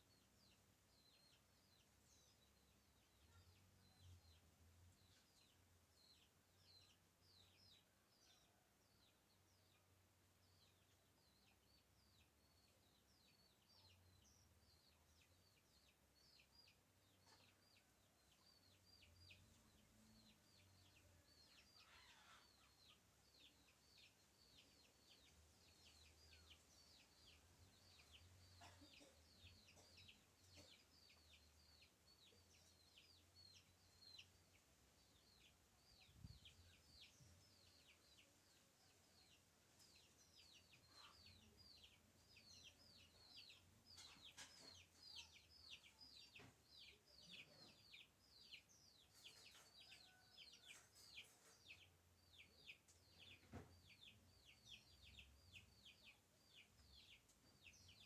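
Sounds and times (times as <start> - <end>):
birds chirping: 10.5 - 58.0.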